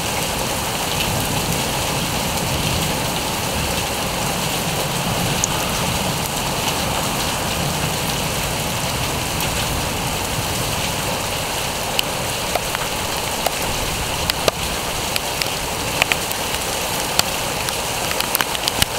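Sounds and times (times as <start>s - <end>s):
heavy rain falling: 0.0s - 18.9s
raindrops ticking close by: 0.0s - 18.9s.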